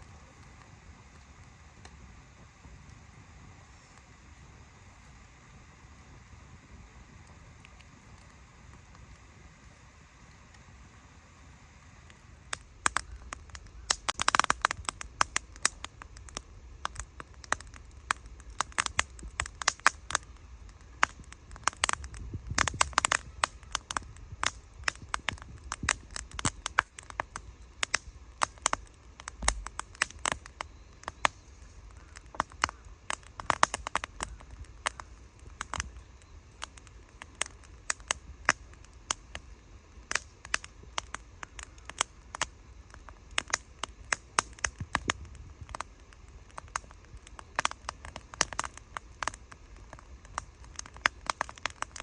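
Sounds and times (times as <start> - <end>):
wood fire crackling and popping: 0.0 - 3.1, 7.2 - 9.4, 12.0 - 52.0.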